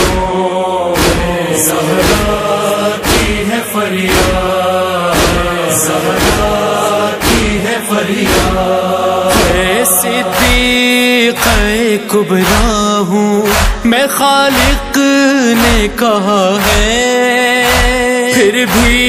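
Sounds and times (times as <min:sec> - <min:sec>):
chorus of voices chanting: 0:00.0 - 0:19.0
steady beat striking: 0:00.0 - 0:19.0.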